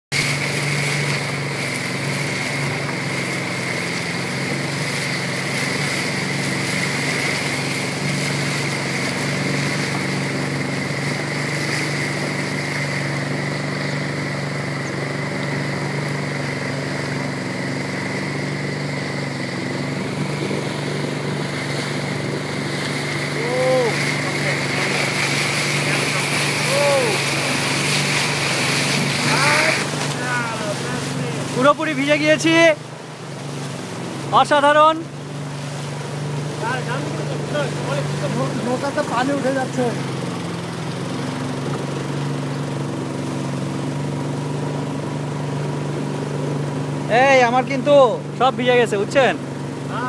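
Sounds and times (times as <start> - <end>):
boat engine running: 0.0 - 50.0
rushing water: 0.1 - 50.0.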